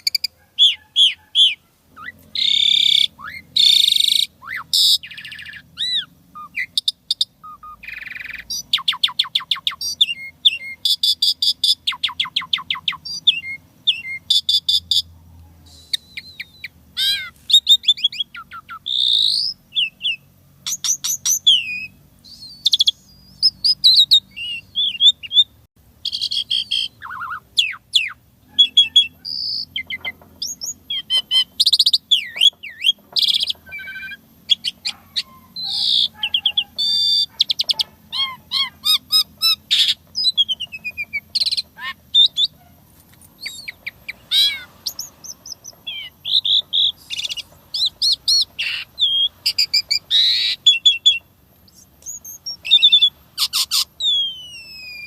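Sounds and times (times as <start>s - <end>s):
faint low hum: 0.0s - 55.0s
starling singing varied song: 0.0s - 55.0s.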